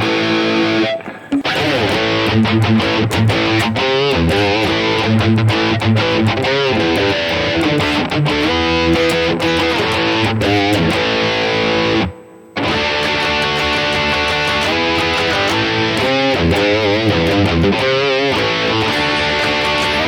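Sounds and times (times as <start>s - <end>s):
distorted electric guitar riffs: 0.0s - 20.0s.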